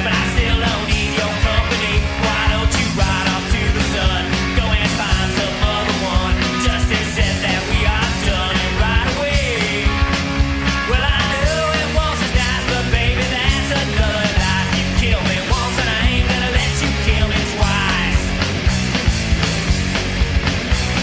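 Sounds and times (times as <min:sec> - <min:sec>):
drums hitting: 0:00.0 - 0:21.0
rock band playing: 0:00.0 - 0:21.0.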